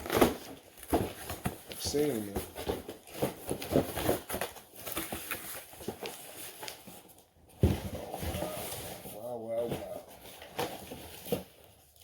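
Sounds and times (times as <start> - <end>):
cardboard box rustling: 0.0 - 11.8.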